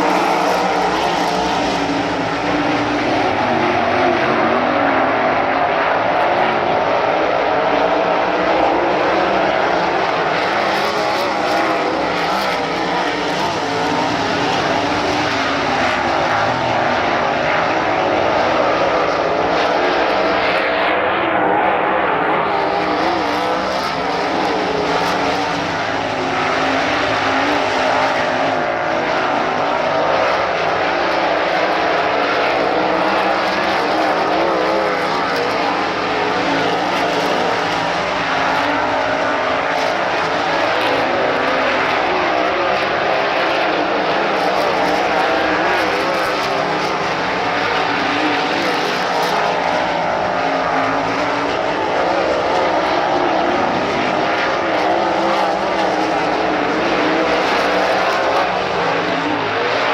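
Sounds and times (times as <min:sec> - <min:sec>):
race car engines roaring: 0:00.0 - 0:59.9.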